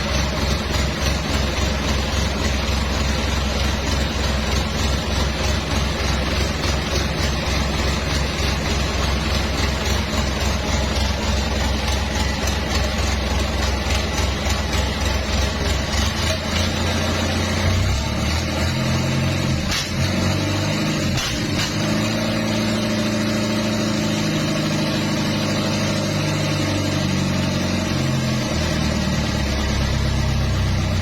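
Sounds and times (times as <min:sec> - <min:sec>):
diesel engine idling: 0:00.0 - 0:21.2, 0:22.1 - 0:31.0.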